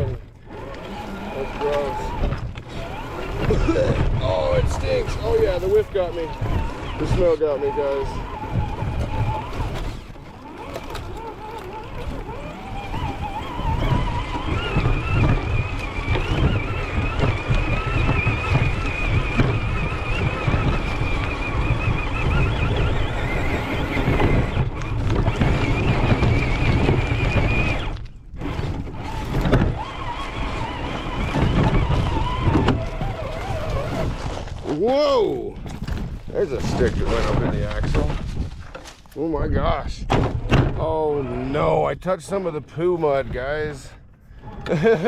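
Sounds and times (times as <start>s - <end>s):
electric motor whining: 0.0s - 38.0s
toy truck rattling over dirt: 0.0s - 39.9s.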